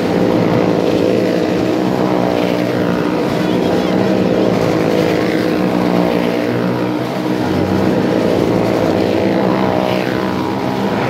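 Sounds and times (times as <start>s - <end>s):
vehicle engines droning: 0.0s - 11.0s.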